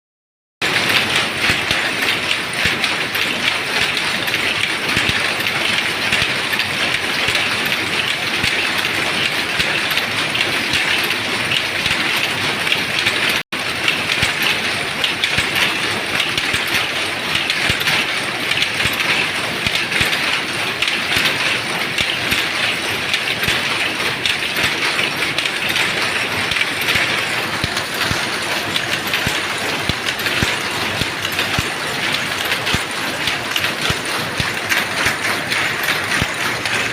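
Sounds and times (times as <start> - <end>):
power loom clattering: 0.6 - 36.9.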